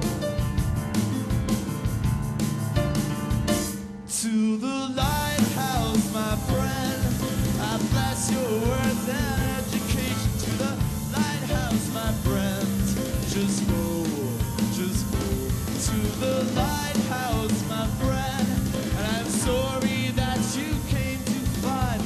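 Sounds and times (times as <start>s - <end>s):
live band music: 0.0s - 4.0s, 5.0s - 22.0s.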